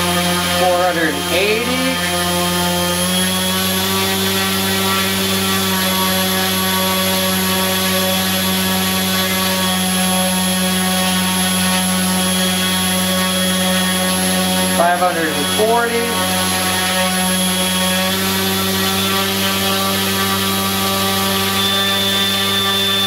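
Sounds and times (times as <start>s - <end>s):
electric motor spinning propeller: 0.0s - 23.0s.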